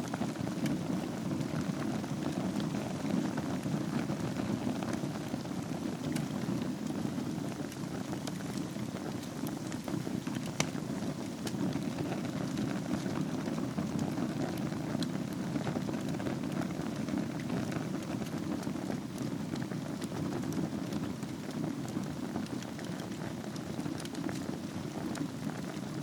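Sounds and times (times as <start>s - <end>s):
wood fire burning: 0.0s - 26.0s.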